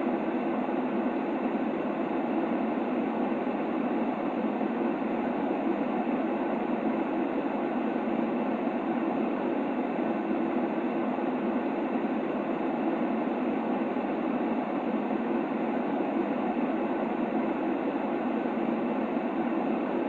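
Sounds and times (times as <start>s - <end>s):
steady white noise: 0.0s - 20.0s.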